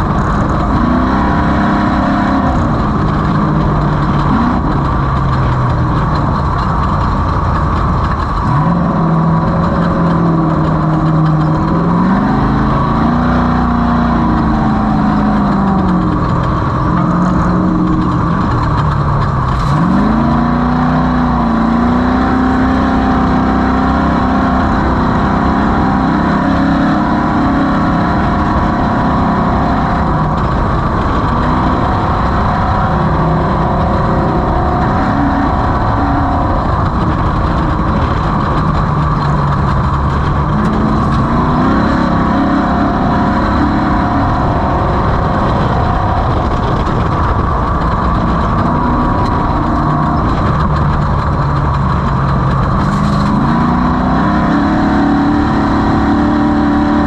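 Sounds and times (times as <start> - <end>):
constant rushing noise: 0.0 - 57.0
race vehicle engine at high revs: 0.0 - 57.0.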